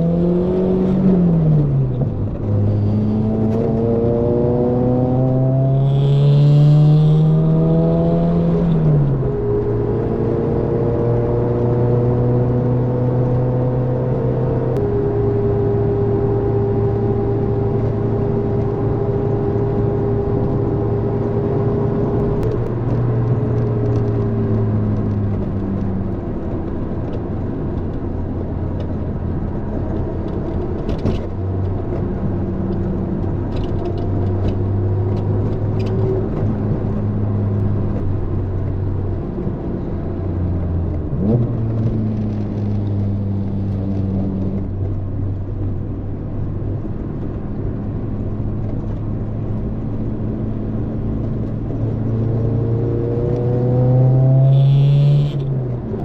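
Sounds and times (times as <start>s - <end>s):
car engine while driving: 0.0s - 56.0s.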